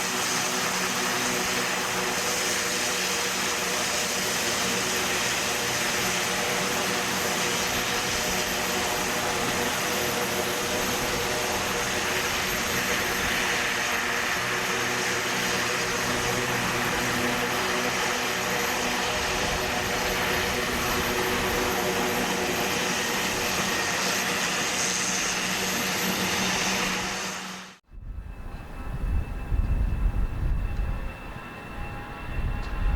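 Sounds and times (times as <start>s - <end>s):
airliner engines roaring: 0.0s - 32.9s.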